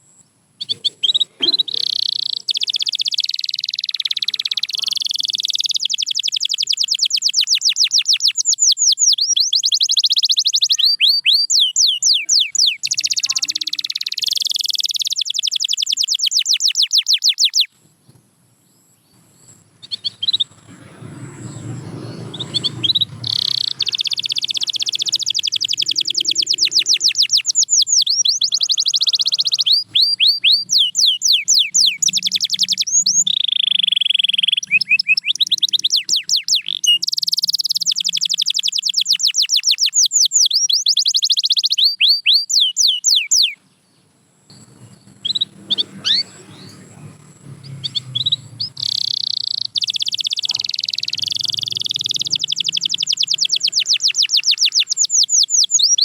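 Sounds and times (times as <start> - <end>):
canary singing fast trills: 0.0 - 17.8, 18.7 - 56.0.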